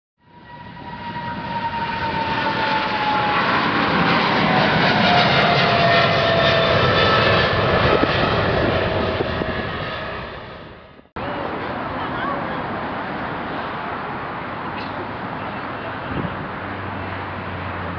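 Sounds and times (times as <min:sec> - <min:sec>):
jet airliner flying past: 0:00.2 - 0:17.9.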